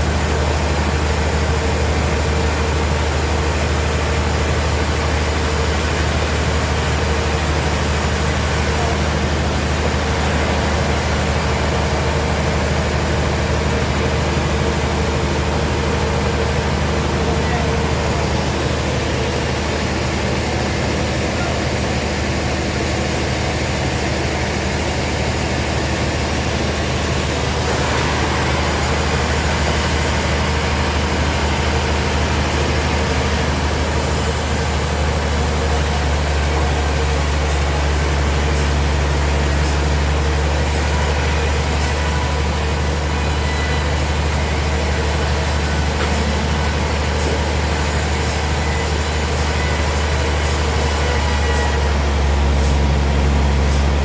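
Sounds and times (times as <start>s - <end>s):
sawmill machinery droning: 0.0s - 54.0s.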